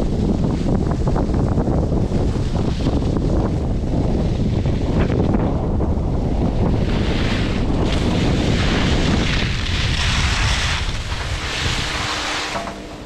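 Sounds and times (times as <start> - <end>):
wind buffeting microphone: 0.0 - 13.0
skis hissing over snow: 0.1 - 13.0.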